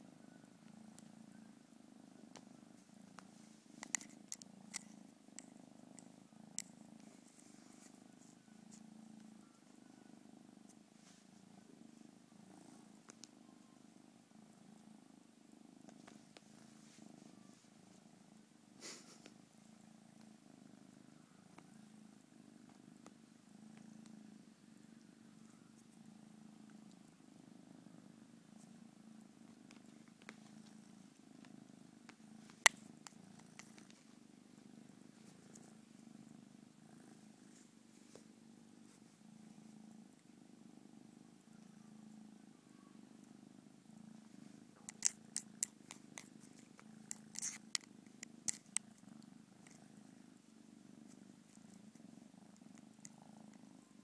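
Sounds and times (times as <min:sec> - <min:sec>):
kitten purring: 0:00.0 - 0:54.0.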